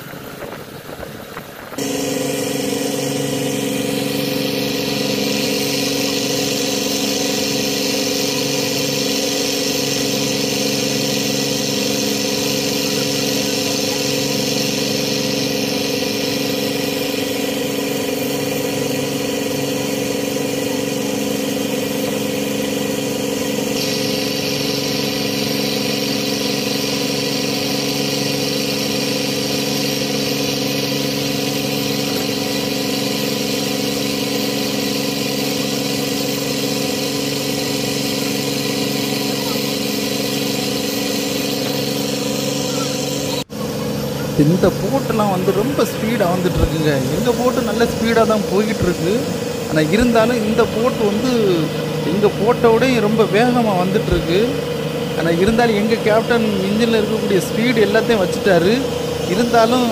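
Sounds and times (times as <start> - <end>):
steady hiss: 0.0 - 43.5, 44.4 - 59.9
diesel boat engine droning: 0.0 - 59.9.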